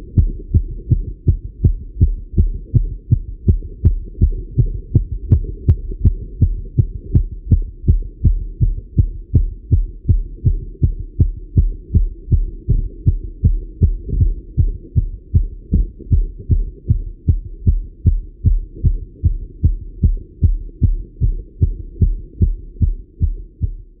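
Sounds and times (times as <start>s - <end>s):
low rumble: 0.0s - 23.8s
fast heartbeat through stethoscope: 0.0s - 24.0s.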